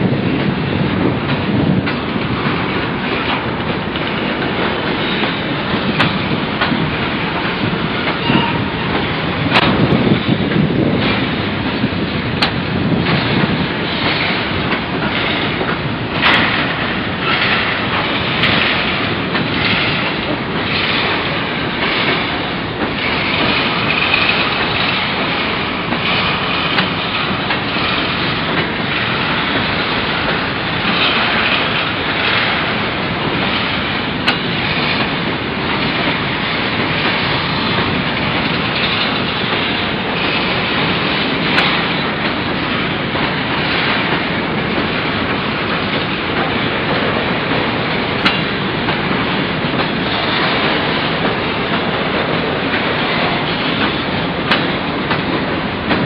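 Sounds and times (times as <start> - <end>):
steel wheels rumbling on rails: 0.0 - 56.0
wheels clacking over rail joints: 0.0 - 56.0.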